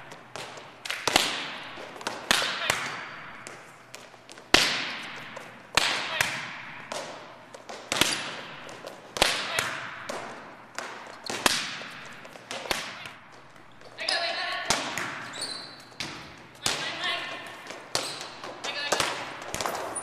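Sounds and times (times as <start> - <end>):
volleyballs being struck: 0.0 - 20.0.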